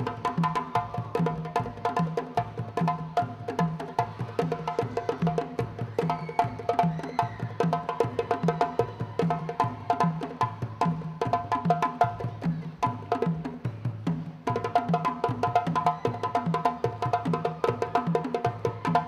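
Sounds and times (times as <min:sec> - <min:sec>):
hand-drum ensemble playing: 0:00.0 - 0:19.0.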